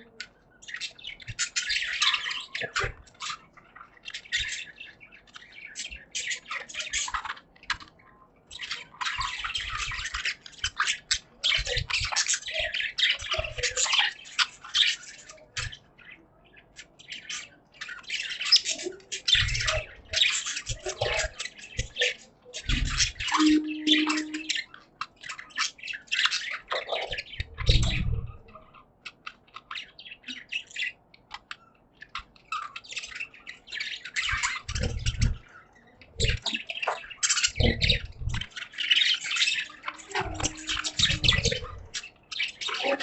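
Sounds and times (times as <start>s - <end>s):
budgies chirping and chattering: 0.0s - 43.0s.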